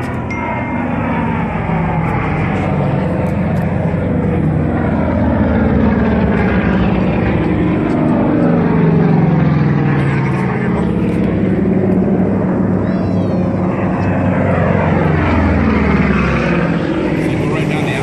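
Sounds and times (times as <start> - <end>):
propeller aircraft engines: 0.0 - 18.0.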